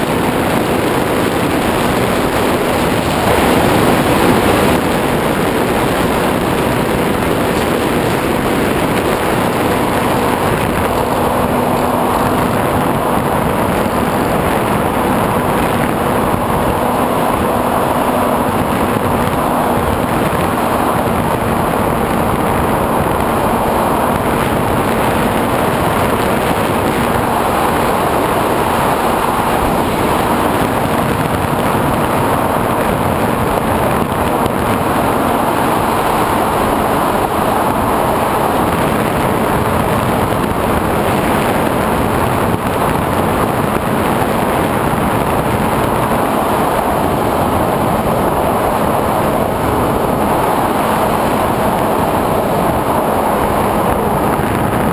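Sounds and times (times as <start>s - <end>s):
electric motor and propeller: 0.0s - 54.9s
wind rushing: 0.0s - 54.9s.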